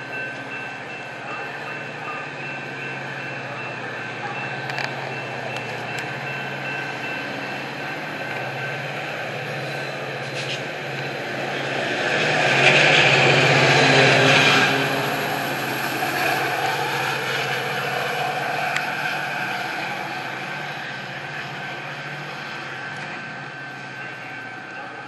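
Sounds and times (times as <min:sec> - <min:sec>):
diesel train passing: 0:00.0 - 0:25.0.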